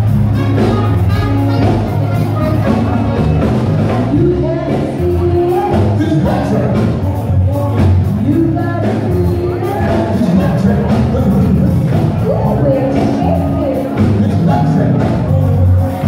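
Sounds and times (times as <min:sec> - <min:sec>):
bass line: 0:00.0 - 0:16.0
drums: 0:00.0 - 0:16.0
singer's melody: 0:00.0 - 0:16.0.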